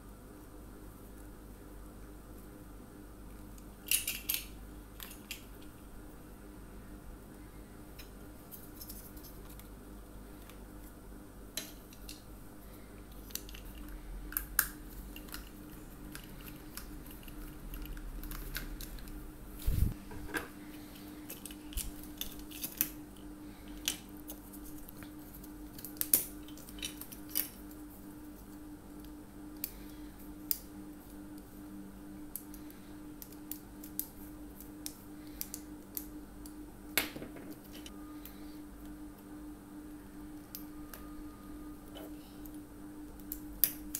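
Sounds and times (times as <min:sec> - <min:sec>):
faint hum: 0:00.0 - 0:43.9.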